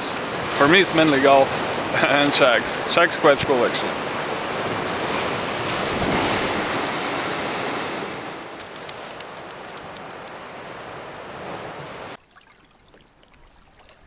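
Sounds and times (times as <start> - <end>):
sea waves washing: 0.0 - 14.0.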